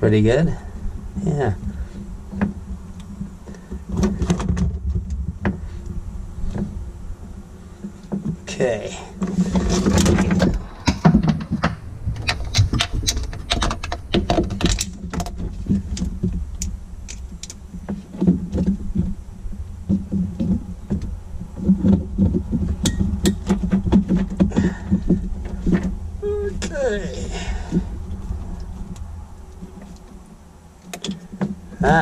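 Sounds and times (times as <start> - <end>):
handling rumble: 0.0 - 32.0.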